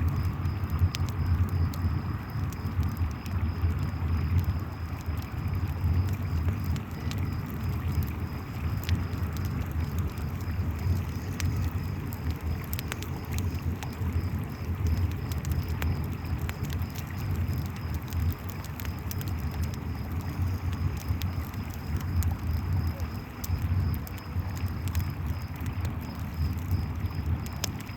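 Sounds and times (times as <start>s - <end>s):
campfire crackling and popping: 0.0s - 27.9s
crickets chirping: 0.0s - 27.9s.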